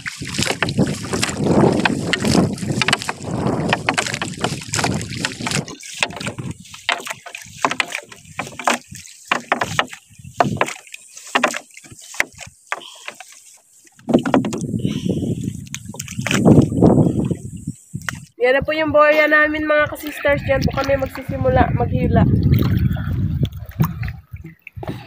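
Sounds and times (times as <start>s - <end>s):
wind noise: 0.0s - 10.8s, 14.0s - 25.0s
water splashing around boat: 0.0s - 25.0s.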